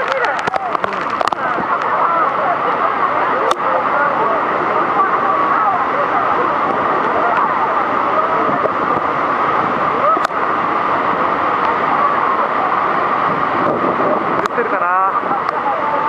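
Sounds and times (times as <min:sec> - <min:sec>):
people talking: 0:00.0 - 0:10.5, 0:11.2 - 0:16.0
waterfall roaring: 0:00.0 - 0:16.0.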